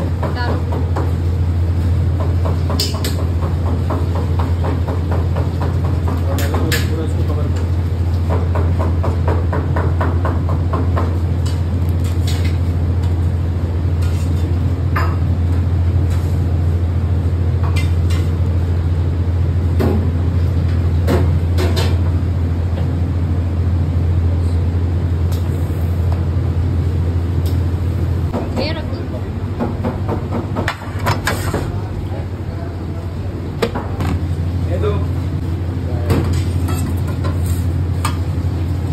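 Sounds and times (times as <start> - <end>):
kitchen equipment humming: 0.0 - 38.9.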